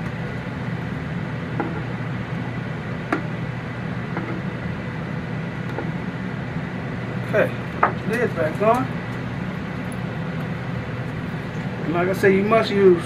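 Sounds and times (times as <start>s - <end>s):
appliance fan humming: 0.0s - 13.0s.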